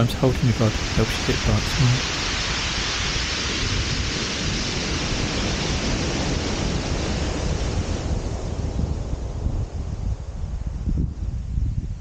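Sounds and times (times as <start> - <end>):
surf on shingle beach: 0.0 - 12.0
wind: 0.0 - 12.0.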